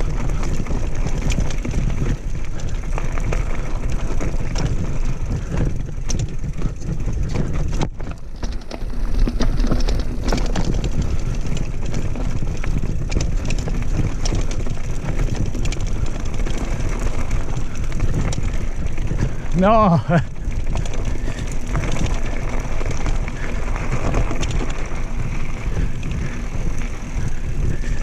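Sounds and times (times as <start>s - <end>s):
bike clattering over stones: 0.0s - 28.0s
wind rumble on microphone: 0.0s - 28.0s.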